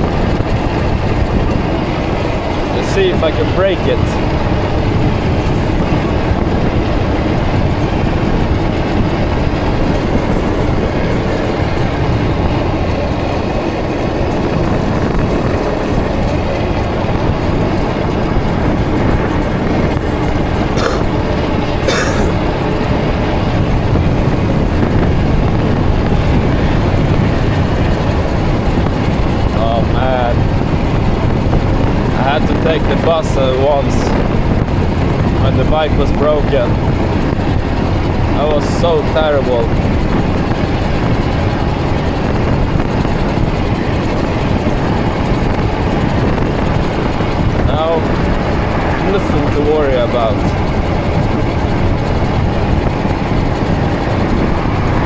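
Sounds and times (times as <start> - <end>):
tyre and road noise: 0.0 - 55.0
wind rushing over microphone: 0.0 - 55.0.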